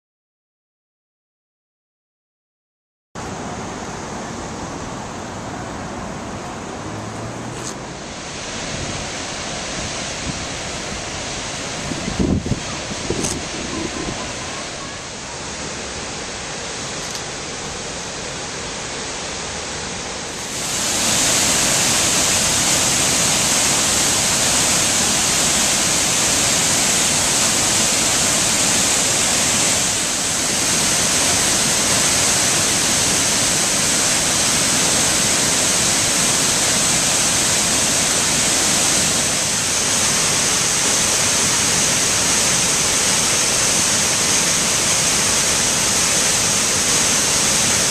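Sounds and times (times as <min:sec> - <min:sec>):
waterfall rushing: 0:03.2 - 0:47.9.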